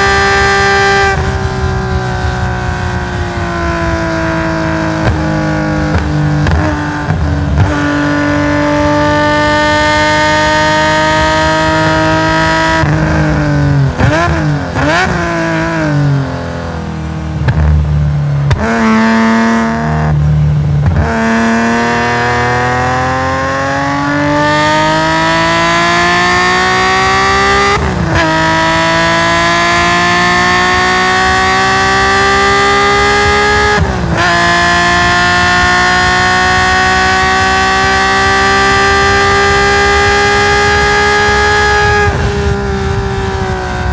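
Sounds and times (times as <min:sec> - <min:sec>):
quick gear upshifts: 0:00.0 - 0:43.9
race car engine revving: 0:00.0 - 0:43.9.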